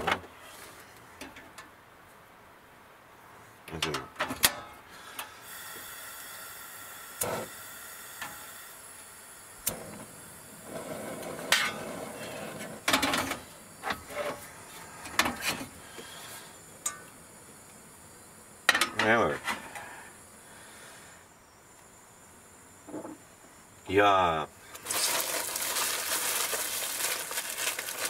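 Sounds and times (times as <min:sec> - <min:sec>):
gas flame hissing: 0:04.4 - 0:23.2, 0:23.8 - 0:28.0.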